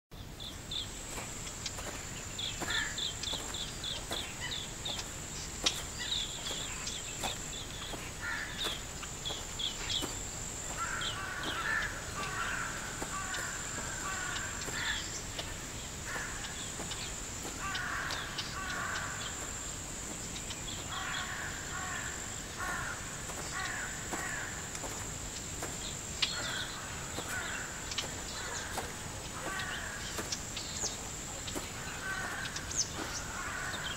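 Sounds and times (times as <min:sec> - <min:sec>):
harsh repeated bird calls: 0:00.3 - 0:33.9
high insect drone: 0:00.3 - 0:33.9.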